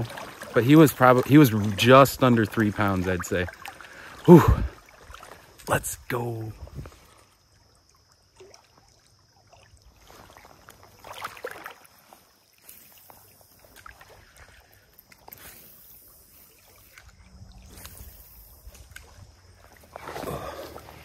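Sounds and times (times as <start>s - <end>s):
shallow water sloshing and splashing: 0.0s - 5.7s, 6.5s - 21.0s.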